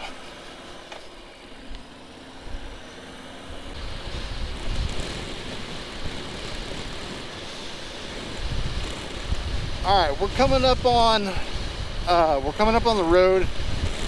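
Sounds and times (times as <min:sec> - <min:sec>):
motorcycle engine running: 0:00.0 - 0:14.0
wind rushing over microphone: 0:01.6 - 0:14.0.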